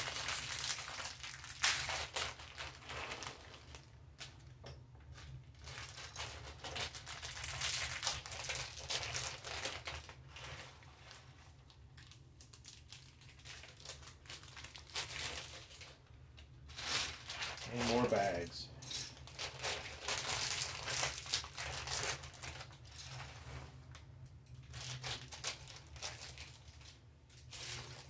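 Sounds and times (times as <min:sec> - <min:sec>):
plastic bags crinkling and tearing: 0:00.0 - 0:28.0.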